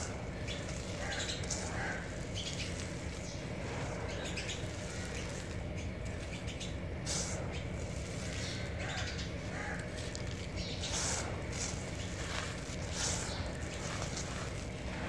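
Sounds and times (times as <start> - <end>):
soil and gravel trickling: 0.0 - 15.0
steady low rumble: 0.0 - 15.0.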